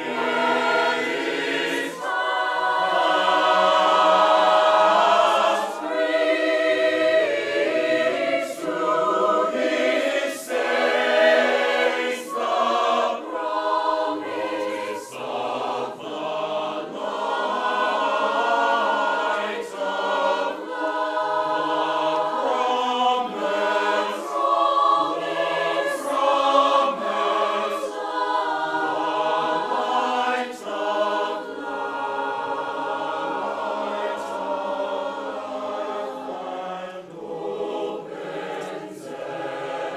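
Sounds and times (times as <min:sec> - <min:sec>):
mixed choir singing held chords: 0:00.0 - 0:39.9.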